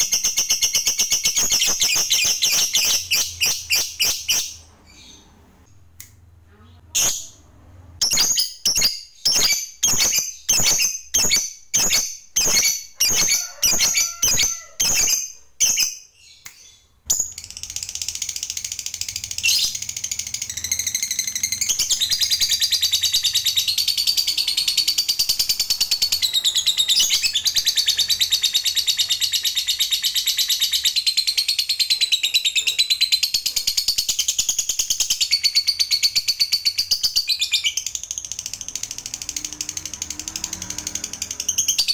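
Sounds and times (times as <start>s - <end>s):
lovebird chirping and chattering: 0.0s - 5.4s, 6.7s - 41.9s.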